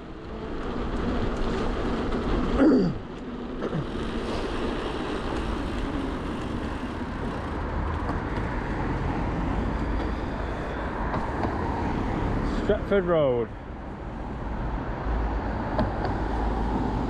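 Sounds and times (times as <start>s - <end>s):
road traffic: 0.0s - 17.0s
wind rumble: 0.0s - 17.0s.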